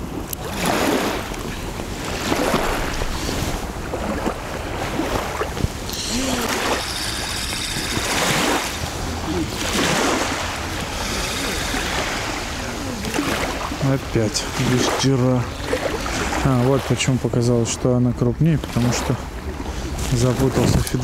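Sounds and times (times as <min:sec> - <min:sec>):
small waves lapping at shore: 0:00.0 - 0:21.0
wind: 0:00.0 - 0:21.0.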